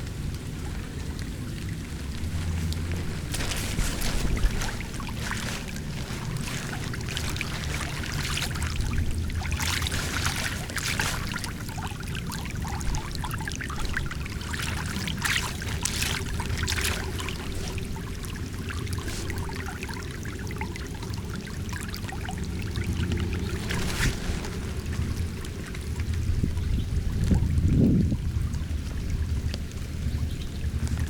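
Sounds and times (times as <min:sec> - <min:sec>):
water pouring down a drain: 0:00.0 - 0:31.0.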